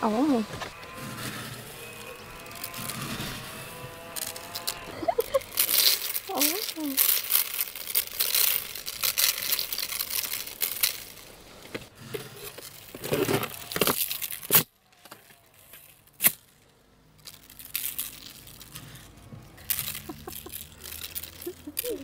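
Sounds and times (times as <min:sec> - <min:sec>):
salt grains crackling: 0:00.7 - 0:11.8, 0:12.4 - 0:14.7, 0:15.4 - 0:22.0.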